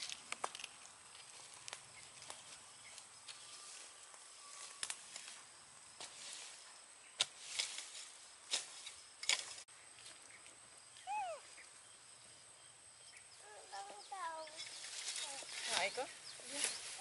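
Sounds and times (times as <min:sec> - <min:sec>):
crackling dry leaves and twigs: 0:00.0 - 0:11.8, 0:13.4 - 0:17.0.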